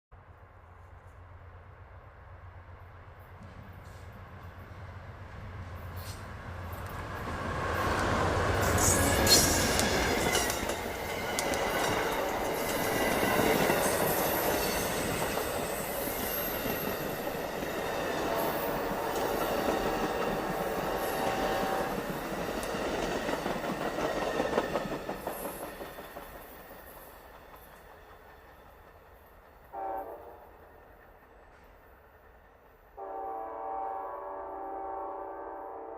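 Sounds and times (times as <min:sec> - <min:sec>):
train rumbling and clattering past: 0:00.2 - 0:35.0.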